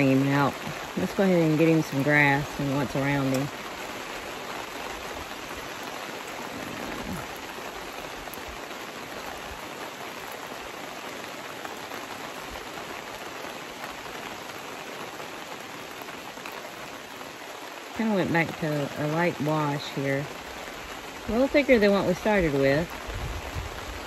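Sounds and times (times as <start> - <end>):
rain drop ticks: 0.0 - 24.0
rain on a tent canopy: 0.0 - 24.0.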